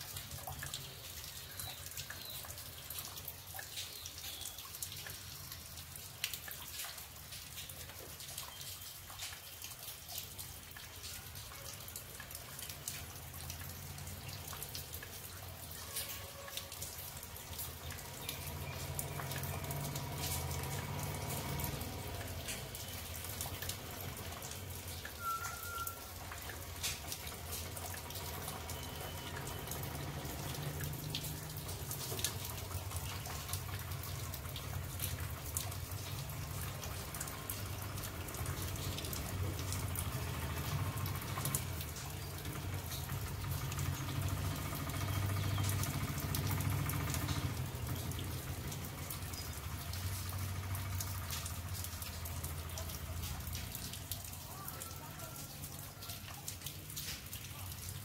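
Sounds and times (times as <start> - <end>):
rain dripping and pattering: 0.0 - 58.0
rainwater pouring and splashing: 0.0 - 58.0.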